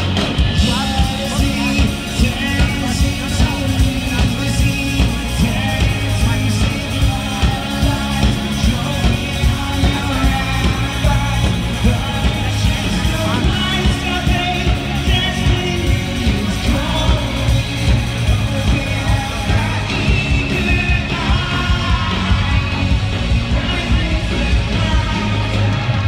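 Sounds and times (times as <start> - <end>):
live rock band playing: 0.0 - 26.0
person singing: 0.0 - 26.0.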